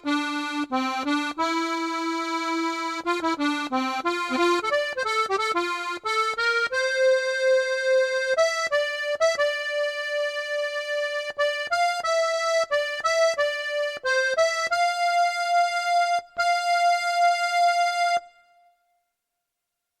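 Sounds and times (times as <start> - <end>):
accordion playing slow melody: 0.0 - 18.8.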